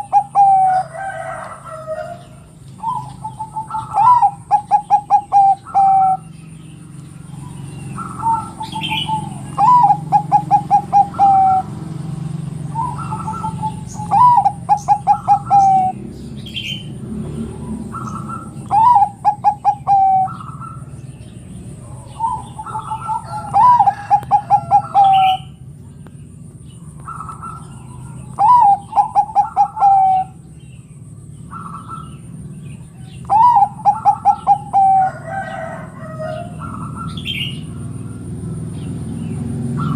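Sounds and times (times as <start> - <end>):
dove cooing: 0.0 - 38.7, 39.4 - 39.9.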